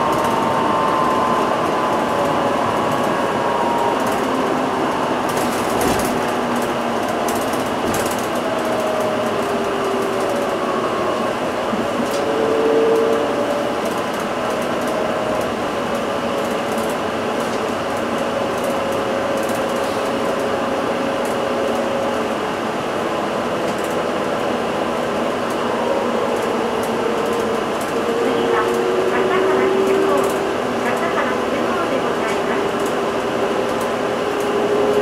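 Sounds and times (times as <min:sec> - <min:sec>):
bus road and drivetrain noise: 0:00.0 - 0:35.0.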